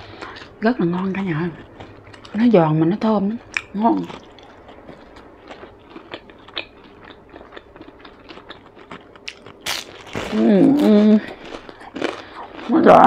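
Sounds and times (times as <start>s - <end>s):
crunchy chewing of spring roll: 0.0s - 2.6s, 3.3s - 13.0s.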